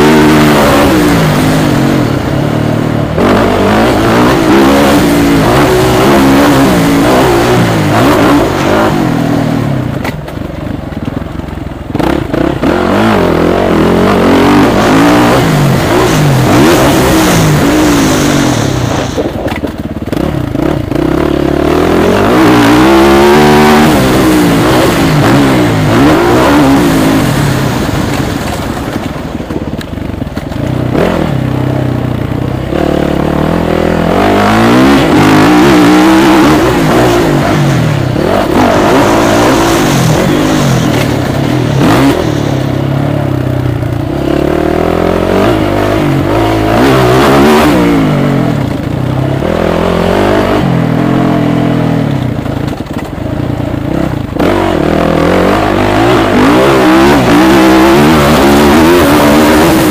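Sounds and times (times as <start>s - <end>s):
motocross bike engine revving: 0.0s - 10.2s, 11.8s - 59.9s.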